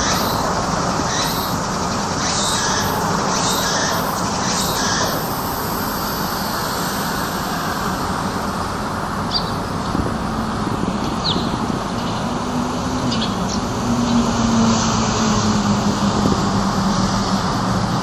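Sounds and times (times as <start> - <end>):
low engine hum: 0.0 - 18.0
road traffic noise: 0.0 - 18.0.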